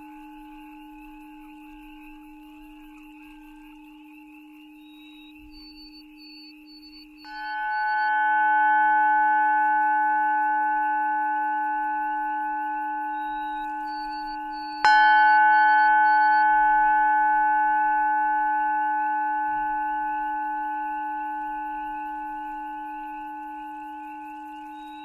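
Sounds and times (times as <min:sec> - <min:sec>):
singing bowl ringing: 0:00.0 - 0:25.0.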